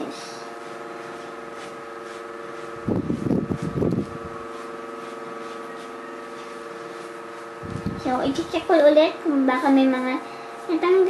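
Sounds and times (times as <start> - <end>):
steady electrical hum: 0.0 - 11.0
brush rubbing over canvas: 0.4 - 11.0.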